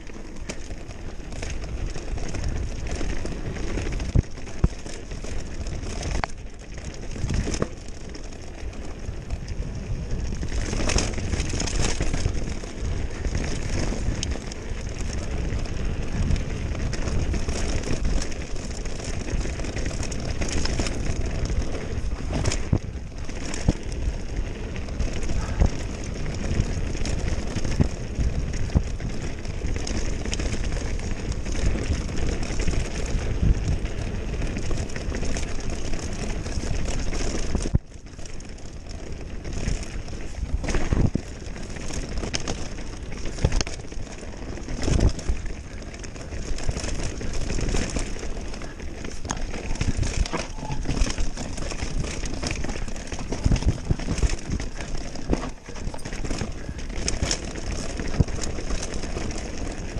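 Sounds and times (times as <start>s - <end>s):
bike rattling: 0.0s - 59.9s
wind and tyre rush: 0.0s - 59.9s.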